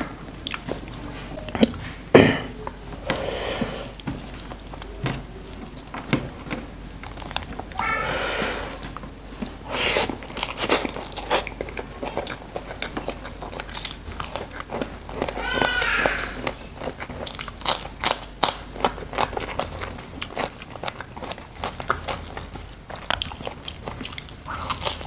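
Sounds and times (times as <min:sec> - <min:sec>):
person chewing food: 0:00.0 - 0:25.0.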